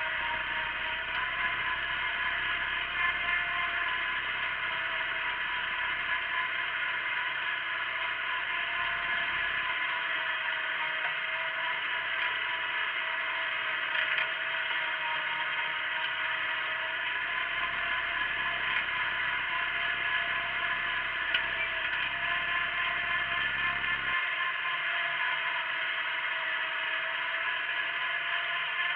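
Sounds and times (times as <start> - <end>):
garden tractor whir and clatter: 0.0 - 28.9.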